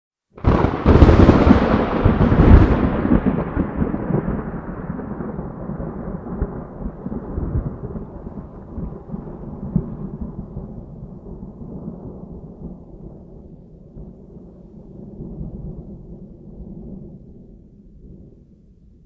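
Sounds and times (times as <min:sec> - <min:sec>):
thunder crack and rumble: 0:00.4 - 0:18.8.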